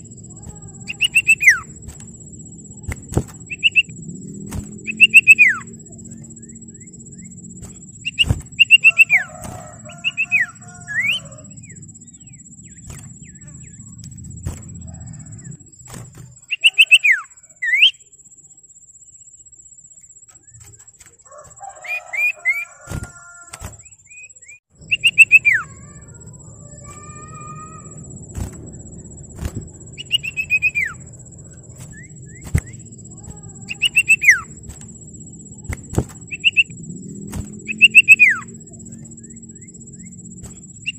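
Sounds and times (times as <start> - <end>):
bird chirping and whistling: 0.0 - 18.1, 21.8 - 40.9.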